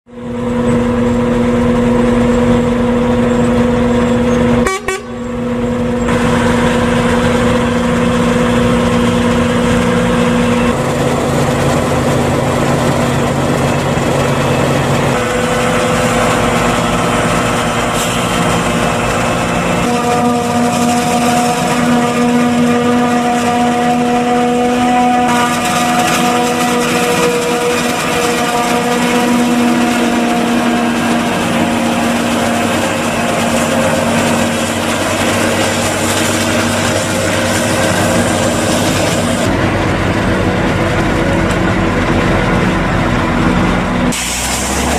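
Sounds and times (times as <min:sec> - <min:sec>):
forage harvester whining: 0:00.1 - 0:44.9
truck driving: 0:00.1 - 0:44.9.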